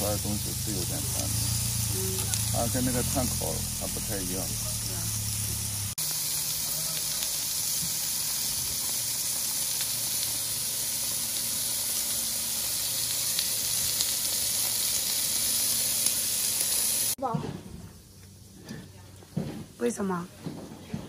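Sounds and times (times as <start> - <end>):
fat crackling and popping: 0.0 - 5.1, 5.8 - 17.6
meat sizzling on a grill: 0.0 - 17.2.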